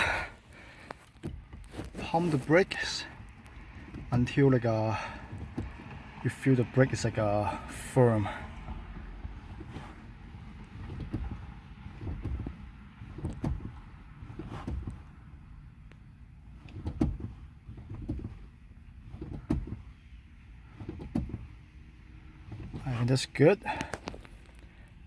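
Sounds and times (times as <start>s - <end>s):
brake pedal thumps and clicks: 0.0s - 25.0s.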